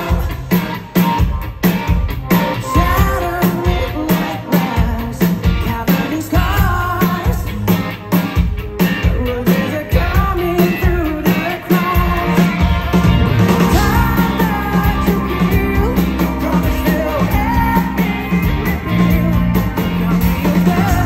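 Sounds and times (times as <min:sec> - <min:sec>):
man singing: 0:00.0 - 0:01.0, 0:02.5 - 0:08.0, 0:08.9 - 0:21.0
driving drum beat: 0:00.0 - 0:21.0
electric guitar: 0:00.0 - 0:21.0.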